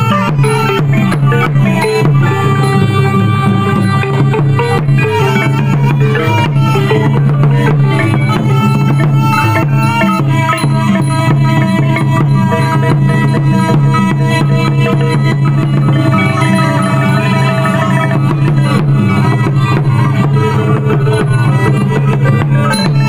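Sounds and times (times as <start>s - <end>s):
hand drum strokes: 0.0s - 23.0s
melody of pitched instruments: 0.0s - 23.0s.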